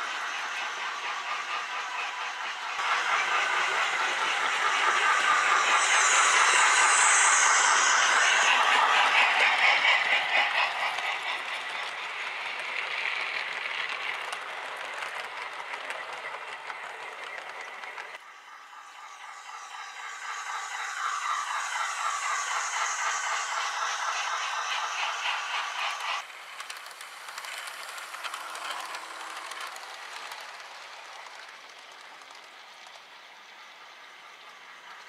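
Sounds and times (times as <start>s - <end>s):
model train wheels rattling: 0.0s - 35.0s.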